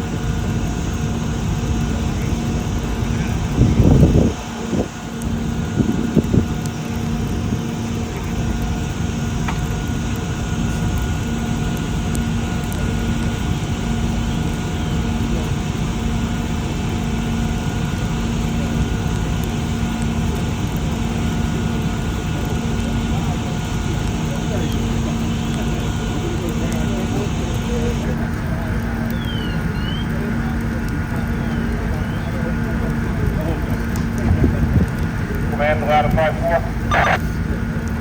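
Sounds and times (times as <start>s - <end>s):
engine droning: 0.0s - 38.0s.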